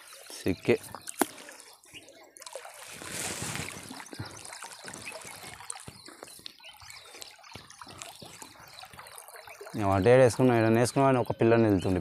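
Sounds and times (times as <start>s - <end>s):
water dripping: 0.0s - 11.2s
water splashing and trickling: 0.0s - 12.0s.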